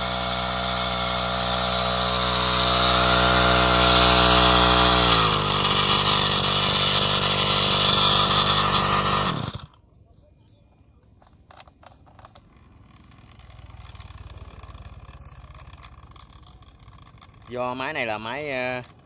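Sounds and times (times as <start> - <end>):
two-stroke engine running: 0.0 - 9.8, 11.5 - 19.0.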